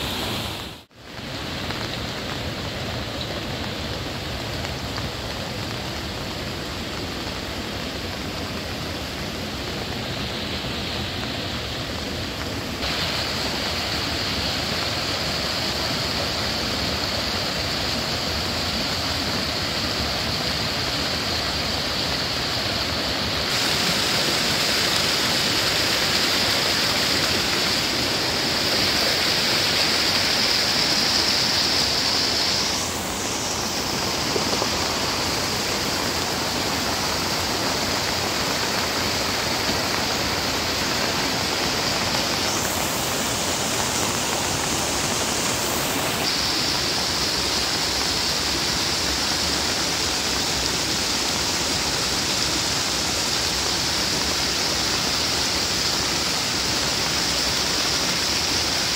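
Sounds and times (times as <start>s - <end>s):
water rushing down a rocky gully: 0.0s - 58.9s.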